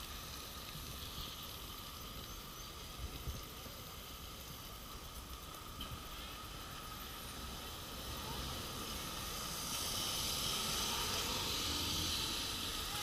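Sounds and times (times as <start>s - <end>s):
low engine rumble: 0.0s - 13.0s
tyres hissing on wet road: 0.0s - 13.0s.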